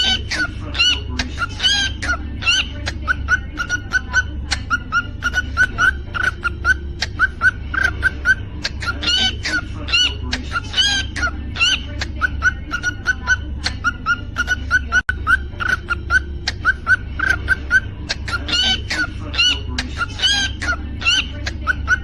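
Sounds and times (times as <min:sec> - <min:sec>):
cockatiel chirping: 0:00.0 - 0:22.0
cockatiel whistled calls: 0:00.0 - 0:22.0
steady low hum: 0:00.0 - 0:22.0.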